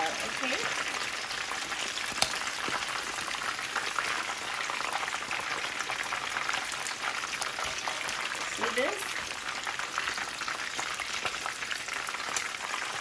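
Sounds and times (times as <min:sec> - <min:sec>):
hot oil bubbling and crackling: 0:00.0 - 0:13.0.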